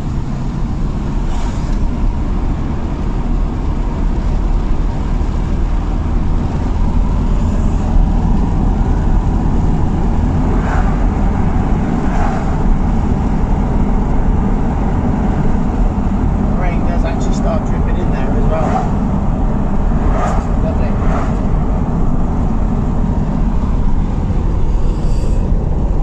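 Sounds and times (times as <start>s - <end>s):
road and wind noise inside van: 0.0s - 26.0s.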